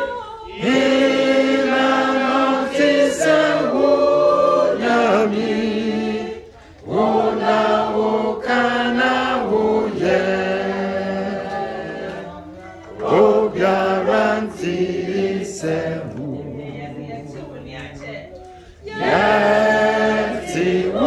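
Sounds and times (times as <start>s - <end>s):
voices singing a slow chant: 0.0s - 17.5s, 18.6s - 21.0s.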